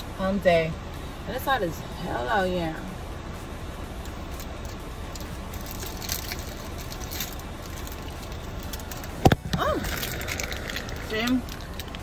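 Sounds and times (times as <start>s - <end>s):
low hum inside car: 0.0s - 12.0s.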